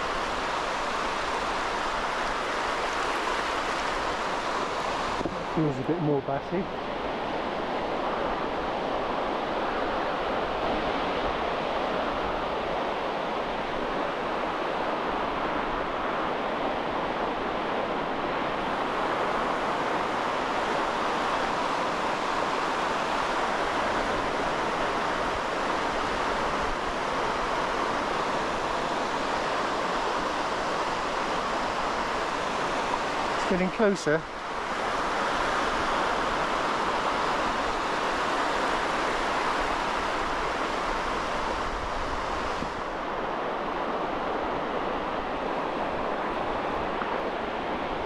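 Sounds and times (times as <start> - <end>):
small waves breaking on shore: 0.0 - 48.0.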